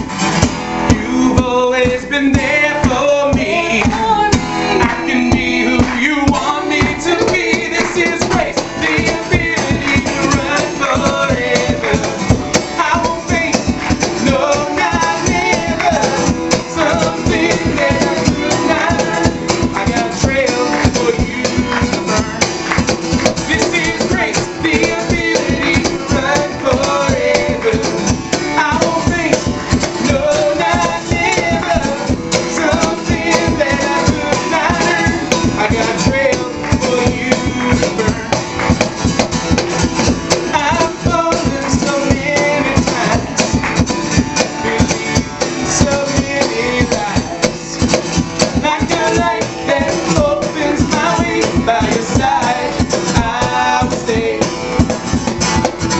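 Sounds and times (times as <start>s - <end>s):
cajon beat: 0.0s - 55.9s
guitar playing: 0.0s - 55.9s.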